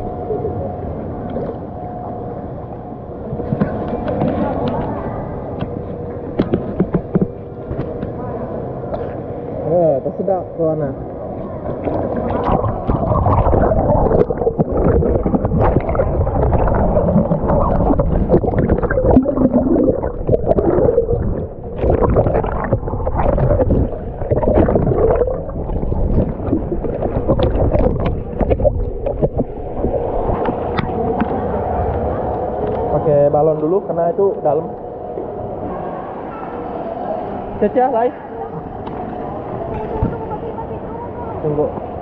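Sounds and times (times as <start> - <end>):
pool water sloshing and gurgling: 0.0 - 42.0.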